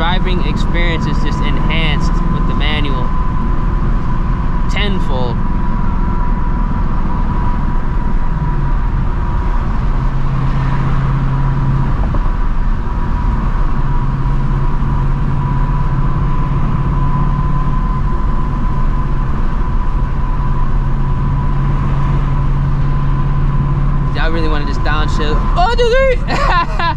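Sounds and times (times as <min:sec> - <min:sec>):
car engine cruising: 0:00.0 - 0:26.9
road and tyre noise: 0:00.0 - 0:26.9.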